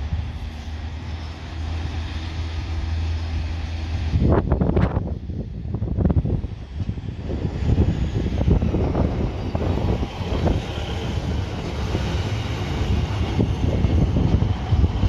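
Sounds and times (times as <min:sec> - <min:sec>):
diesel train rumble: 0:00.0 - 0:15.0.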